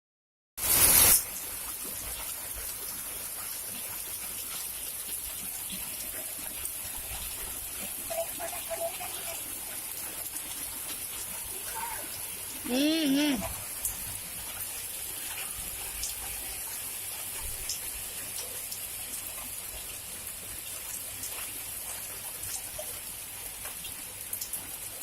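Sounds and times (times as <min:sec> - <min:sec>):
heavy rain pouring: 0:00.6 - 0:25.0.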